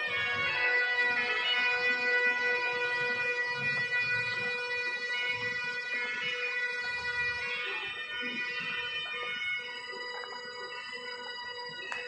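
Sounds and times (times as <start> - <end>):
bagpipes playing held tone: 0.0 - 12.0.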